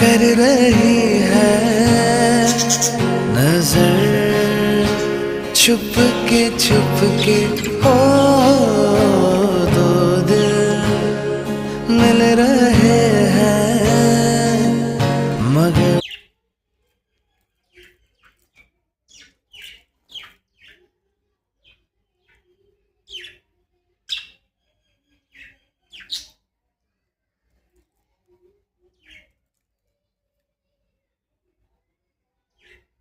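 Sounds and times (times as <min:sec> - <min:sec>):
small birds chirping: 0:00.0 - 0:14.8, 0:15.6 - 0:33.0.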